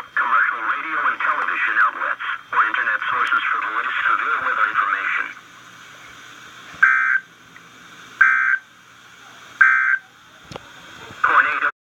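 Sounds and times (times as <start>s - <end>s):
buzzy digital data tones: 0.0s - 7.4s, 8.1s - 11.7s.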